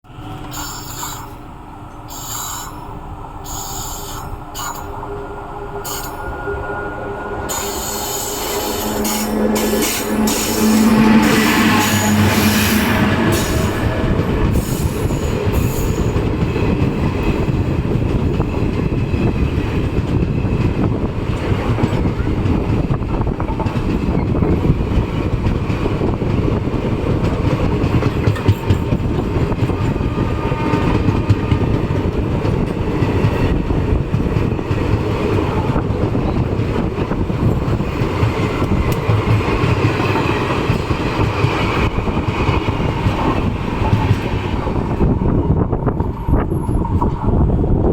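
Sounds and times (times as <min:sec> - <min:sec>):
train coaches rumbling: 0:00.0 - 0:47.9.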